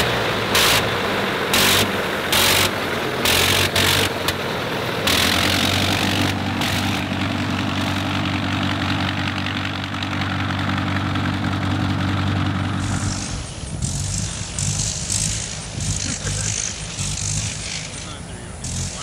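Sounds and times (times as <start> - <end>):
biplane engine running: 0.0 - 19.0.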